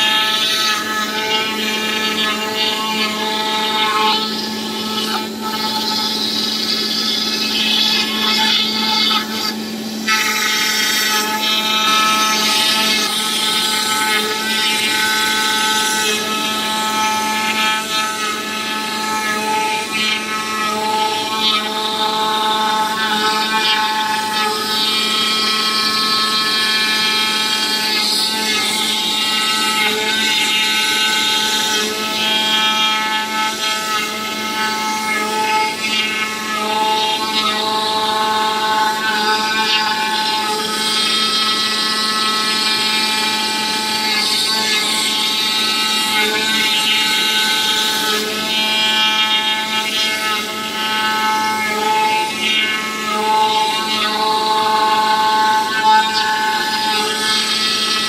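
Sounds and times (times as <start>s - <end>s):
cutting machine knife buzzing: 0.0s - 58.0s.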